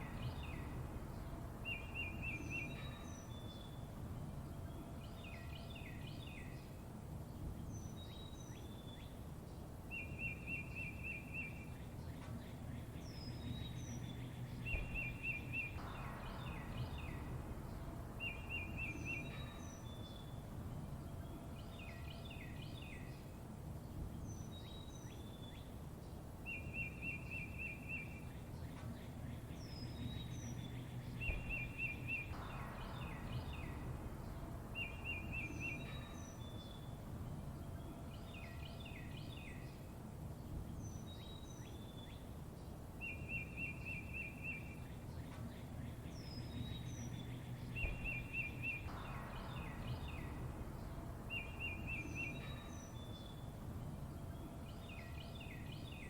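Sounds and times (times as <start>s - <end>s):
low outdoor rumble: 0.0s - 56.0s
songbirds calling: 0.0s - 56.0s.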